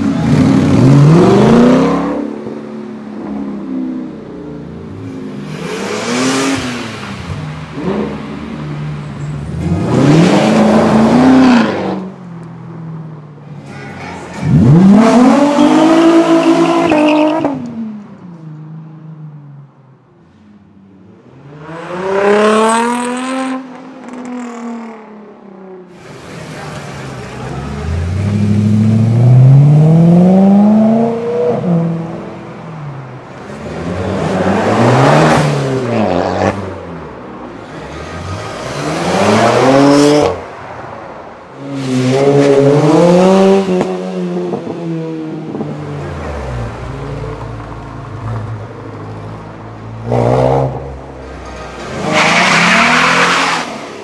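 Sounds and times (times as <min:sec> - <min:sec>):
sports cars revving and accelerating: 0:00.0 - 0:12.2, 0:14.5 - 0:17.9, 0:21.1 - 0:25.2, 0:26.0 - 0:40.8, 0:41.6 - 0:54.0.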